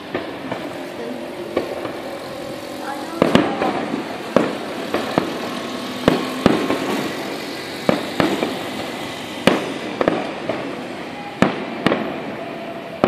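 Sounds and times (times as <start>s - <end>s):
fireworks shells bursting: 0.0s - 13.0s
steady background noise: 0.0s - 13.0s.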